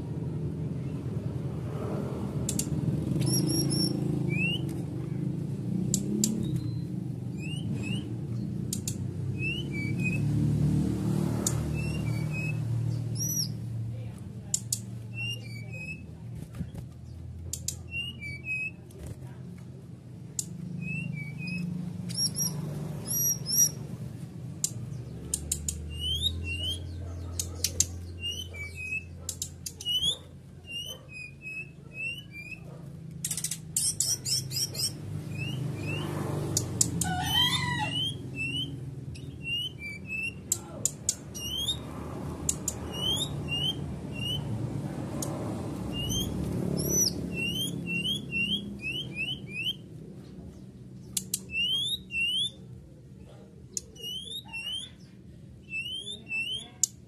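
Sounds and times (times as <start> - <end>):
bird chirping: 2.4 - 5.3, 5.9 - 13.8, 14.4 - 16.2, 17.0 - 18.9, 20.3 - 57.0.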